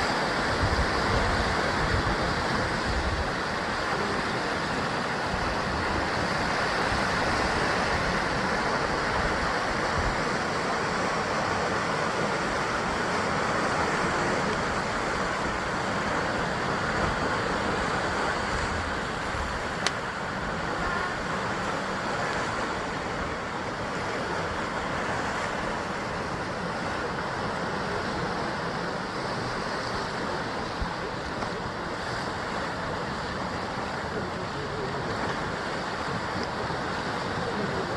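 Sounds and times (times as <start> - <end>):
sea waves on rocky shore: 0.0 - 37.9
wind on microphone: 0.0 - 37.9.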